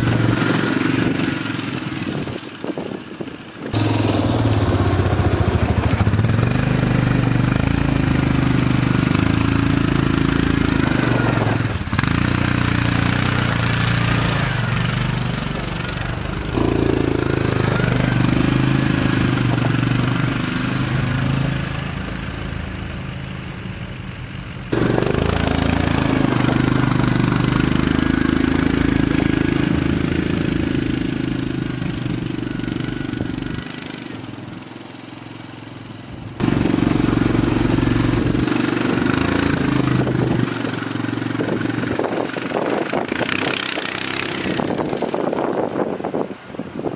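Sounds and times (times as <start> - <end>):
atv engine running under load: 0.0 - 46.9.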